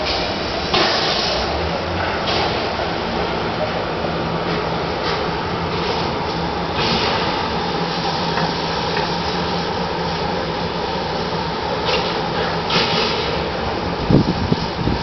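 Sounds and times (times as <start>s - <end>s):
traffic hum and hiss: 0.0s - 15.0s.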